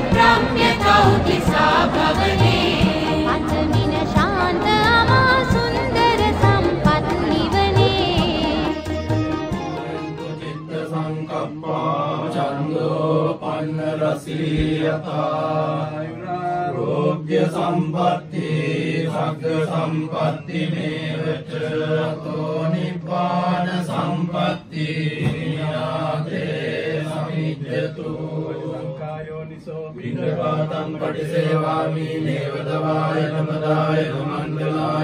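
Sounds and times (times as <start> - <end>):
voices chanting: 0.0 - 8.7, 9.8 - 35.0.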